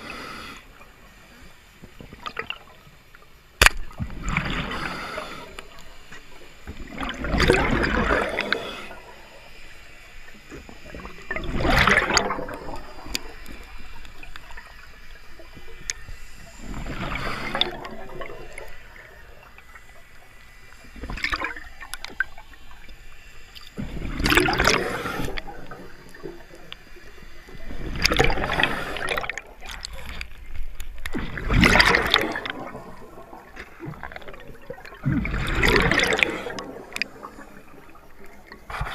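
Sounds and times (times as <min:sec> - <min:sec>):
underwater bubbles exhaled: 0:03.8 - 0:09.5, 0:10.2 - 0:38.9.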